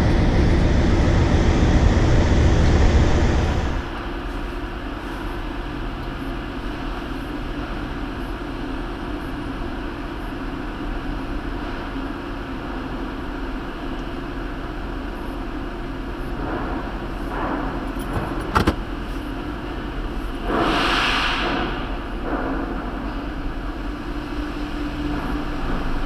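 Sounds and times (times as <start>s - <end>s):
constant hum: 0.0s - 26.0s
low mechanical drone: 0.0s - 26.0s.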